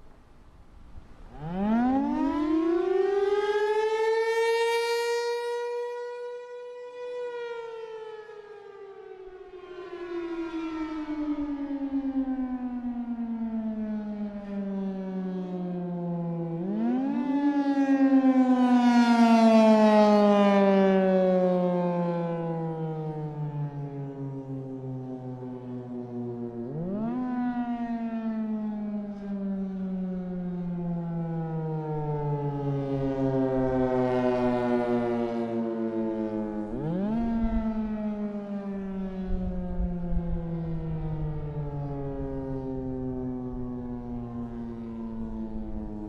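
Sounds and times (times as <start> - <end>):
warning siren rising and falling: 1.0 - 46.0.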